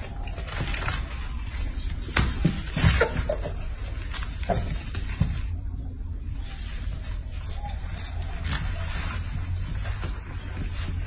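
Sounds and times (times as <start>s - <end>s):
animals scuffling: 0.0s - 11.0s.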